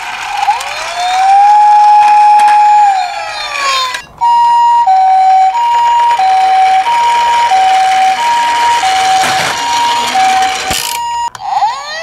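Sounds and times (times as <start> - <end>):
toy ambulance two-tone siren: 0.3 - 12.0.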